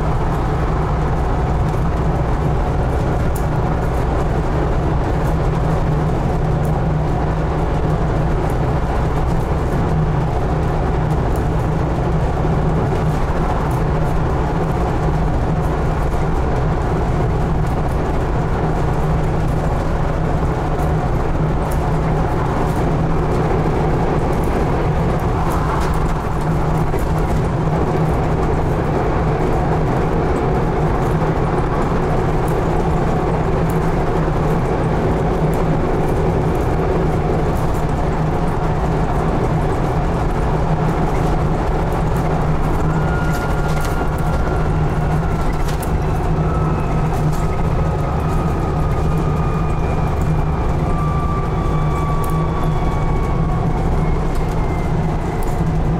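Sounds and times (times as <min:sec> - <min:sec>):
diesel bus engine drone: 0:00.0 - 0:55.9.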